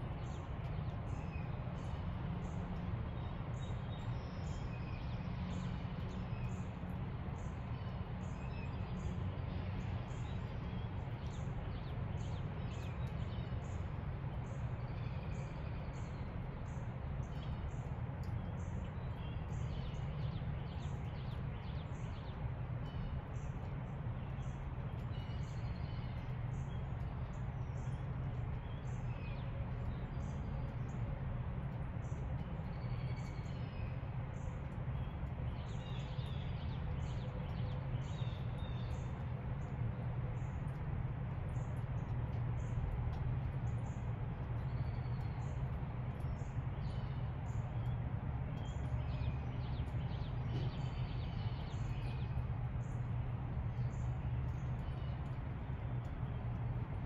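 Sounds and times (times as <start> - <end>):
songbirds chirping: 0.0 - 57.0
steady low rumble: 0.0 - 57.0.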